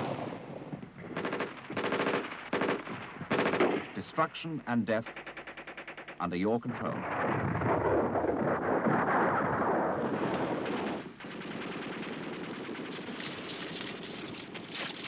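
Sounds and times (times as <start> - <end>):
automatic gunfire: 1.1 - 15.0.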